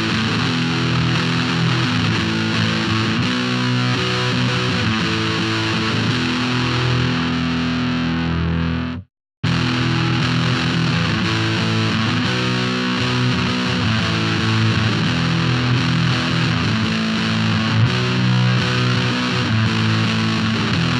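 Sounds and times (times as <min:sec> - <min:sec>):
distorted electric guitar: 0:00.0 - 0:20.9.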